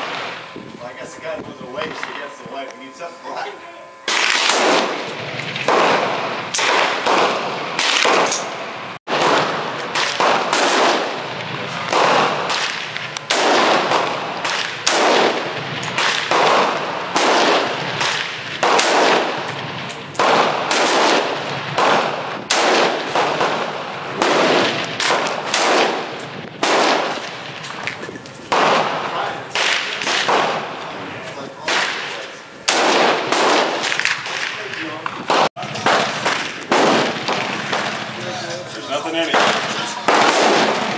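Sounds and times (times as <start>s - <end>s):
single gunshots echoing: 4.1s - 19.5s, 20.2s - 27.5s, 28.5s - 30.8s, 31.6s - 38.1s, 39.3s - 40.9s.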